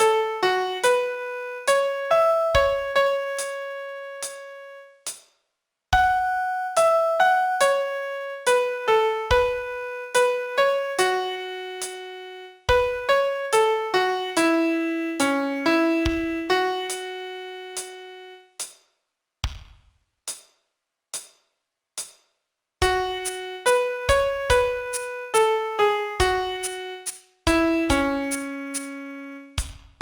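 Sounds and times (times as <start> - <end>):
slow piano melody: 0.0 - 4.9, 6.0 - 18.4, 22.8 - 29.6.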